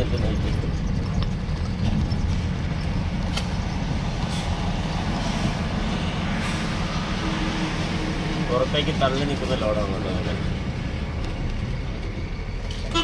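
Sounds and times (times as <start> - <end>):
lorry engine rumbling: 0.0 - 13.0
road noise: 0.0 - 13.0.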